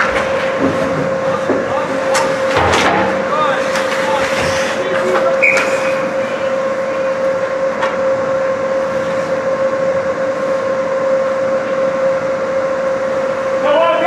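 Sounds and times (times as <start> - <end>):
mid-pitched hum: 0.0 - 14.0.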